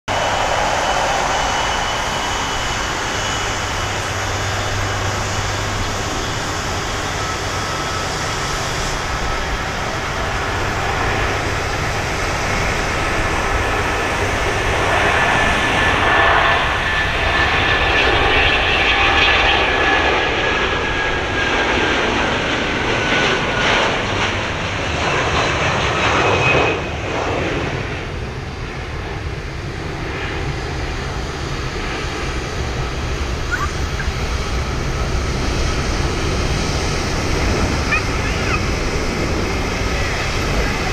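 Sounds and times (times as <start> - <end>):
jet airliner taking off: 0.0 - 40.9.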